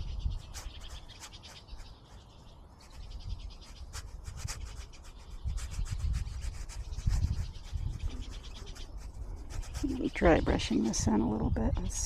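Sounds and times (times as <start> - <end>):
brush scrubbing on paper: 0.0 - 11.0.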